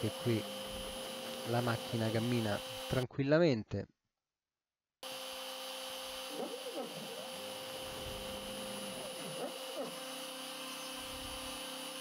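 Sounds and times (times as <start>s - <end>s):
router spindle high whine: 0.0s - 3.0s, 5.0s - 12.0s
stepper motors humming: 0.0s - 3.0s, 5.0s - 12.0s.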